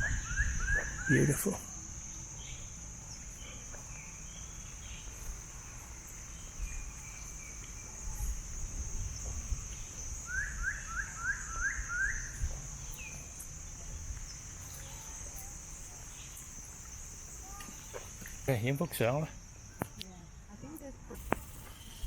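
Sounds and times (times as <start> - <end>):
high-pitched insect drone: 0.0 - 20.0, 20.6 - 22.0
faint birds chirping: 0.0 - 20.7.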